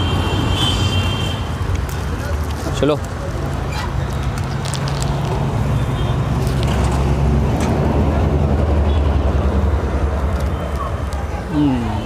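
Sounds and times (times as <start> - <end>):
vehicle engine rumble: 1.4 - 12.0.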